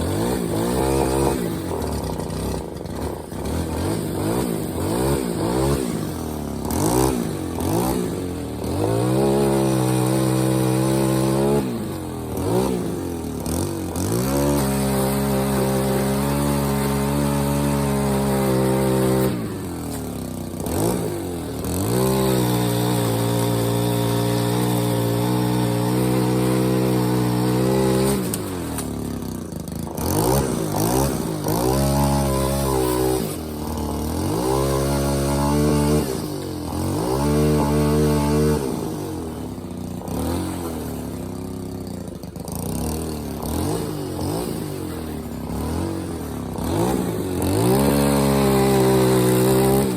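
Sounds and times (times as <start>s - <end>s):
small petrol engine revving: 0.0s - 49.9s.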